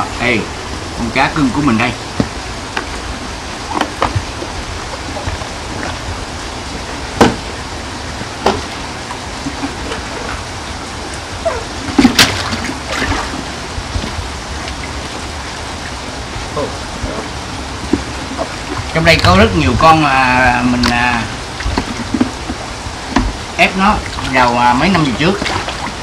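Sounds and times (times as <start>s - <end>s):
running water rush: 0.0s - 26.0s
water splashing in fish tank: 0.6s - 26.0s.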